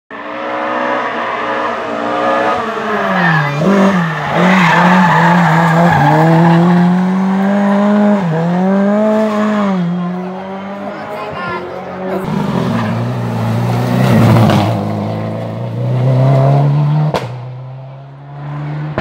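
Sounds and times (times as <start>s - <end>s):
rally car engine revving: 0.1s - 19.0s.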